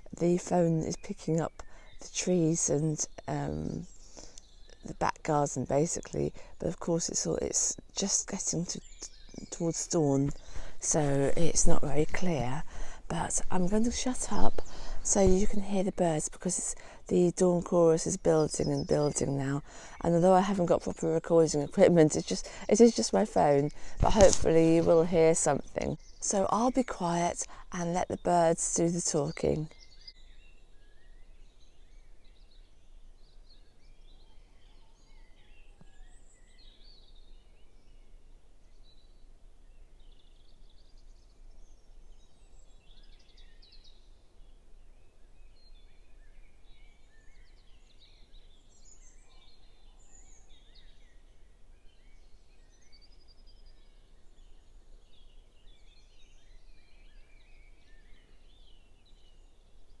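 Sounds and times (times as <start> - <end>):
songbirds singing: 0.0 - 60.0.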